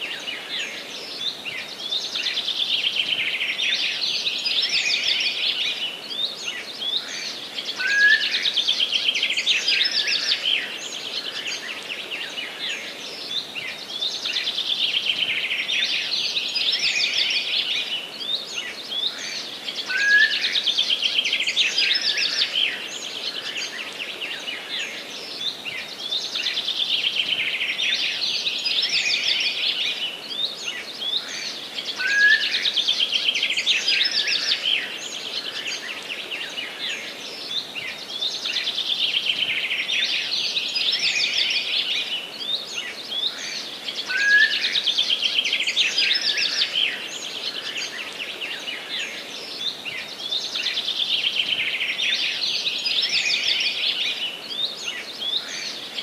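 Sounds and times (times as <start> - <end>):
faint steady hiss: 0.0 - 56.0
songbirds trilling and chirping: 0.0 - 56.0.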